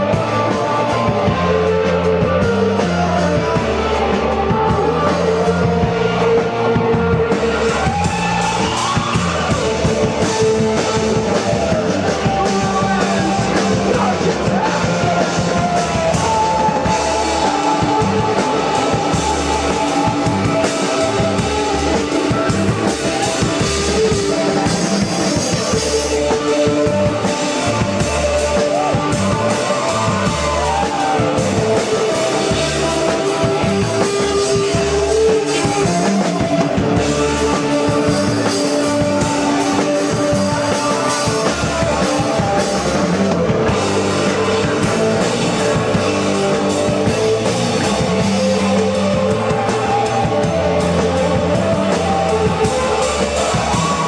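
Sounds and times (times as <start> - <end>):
drum kit: 0.0 - 54.0
electric guitar: 0.0 - 54.0
person singing: 0.0 - 54.0.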